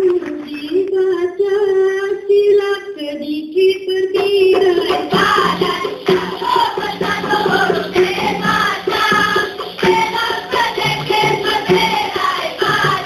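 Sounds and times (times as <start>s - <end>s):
girl singing: 0.0s - 13.0s.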